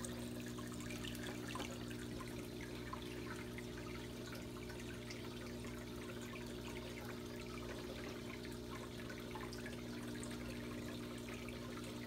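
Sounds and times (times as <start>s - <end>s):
low pump hum: 0.0s - 12.0s
trickling water: 0.0s - 12.0s.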